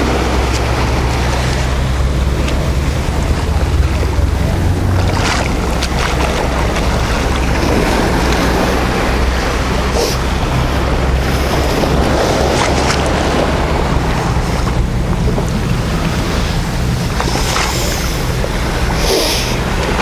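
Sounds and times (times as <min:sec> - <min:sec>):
surf on beach: 0:00.0 - 0:20.0
wind buffeting microphone: 0:00.0 - 0:20.0.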